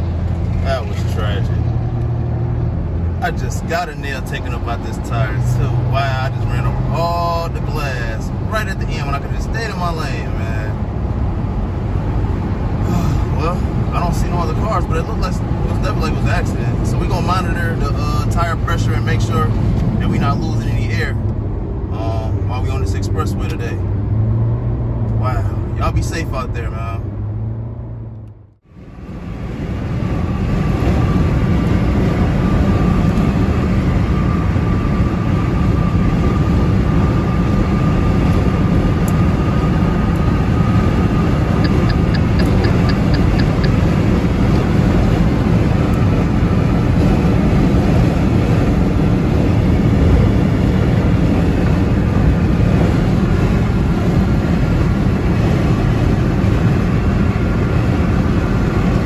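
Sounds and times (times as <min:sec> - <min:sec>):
road and wind roar inside car: 0:00.0 - 0:59.0.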